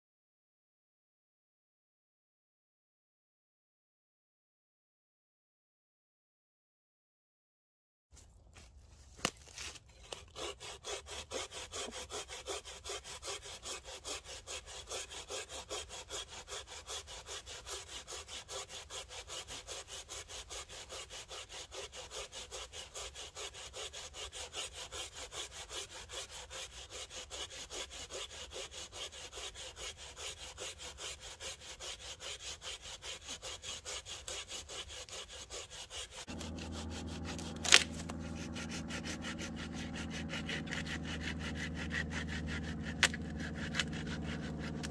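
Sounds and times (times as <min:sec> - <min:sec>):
hand saw cutting log: 0:08.6 - 0:44.9.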